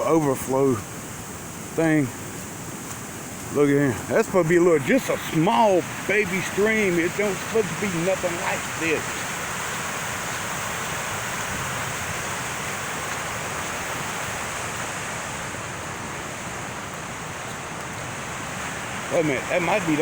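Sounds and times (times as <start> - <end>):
floodwater rushing through stream: 0.0 - 20.0.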